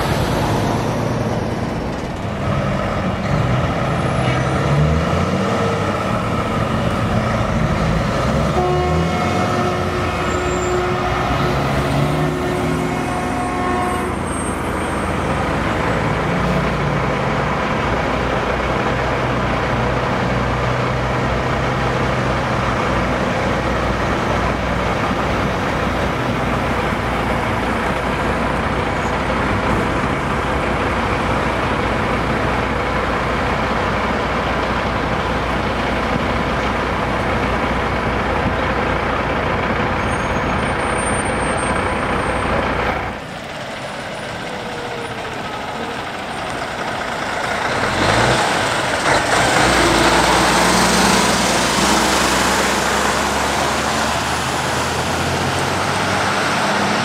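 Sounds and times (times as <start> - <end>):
truck engine approaching: 0.0 - 57.0
trucks driving past: 0.0 - 57.0.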